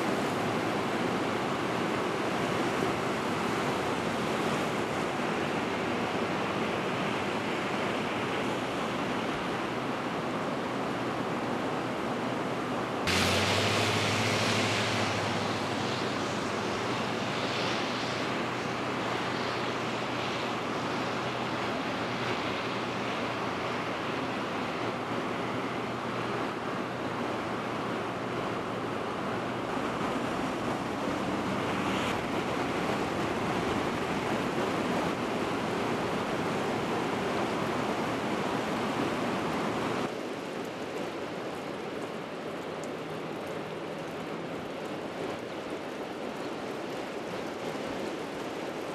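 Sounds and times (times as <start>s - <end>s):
heavy rain: 0.0s - 48.9s
running floodwater: 0.0s - 48.9s.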